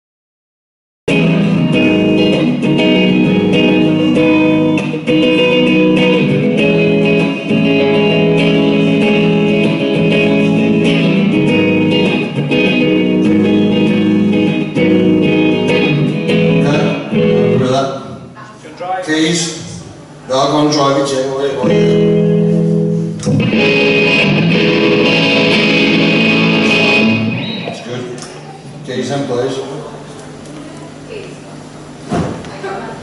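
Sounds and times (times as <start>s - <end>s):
electric guitar through amplifier: 1.1s - 18.4s, 21.3s - 31.1s.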